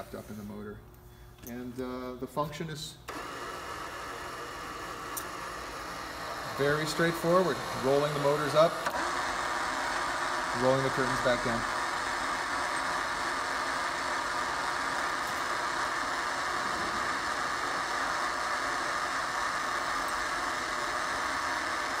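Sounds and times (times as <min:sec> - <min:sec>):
gear motors humming: 0:03.1 - 0:22.0.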